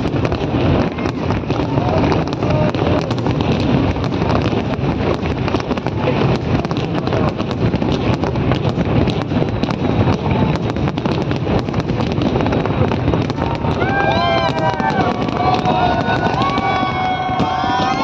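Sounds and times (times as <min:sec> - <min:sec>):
fireworks bangs and crackles: 0:00.0 - 0:18.0
wind noise on microphone: 0:00.0 - 0:18.0.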